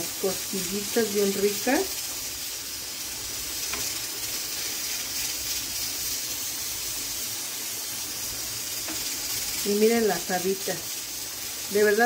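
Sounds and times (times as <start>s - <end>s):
stew simmering hiss: 0.0s - 12.0s.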